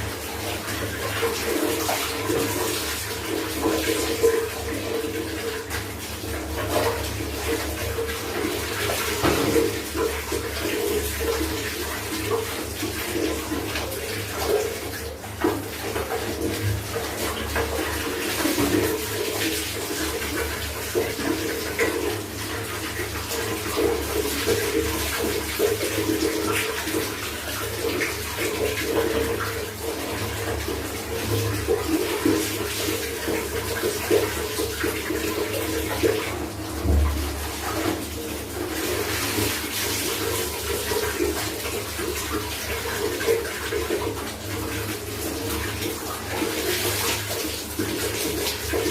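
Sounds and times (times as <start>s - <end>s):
running water splashing: 0.0s - 48.9s.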